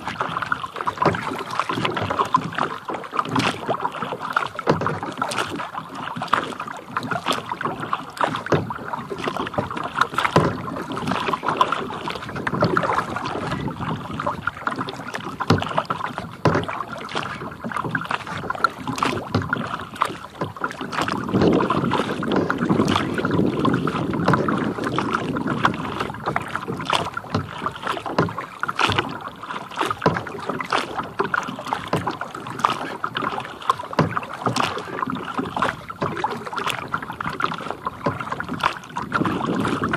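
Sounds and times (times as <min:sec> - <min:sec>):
rush of water: 0:00.0 - 0:39.9
small water splashes: 0:00.0 - 0:39.9
water lapping against kayak hull: 0:00.0 - 0:39.9.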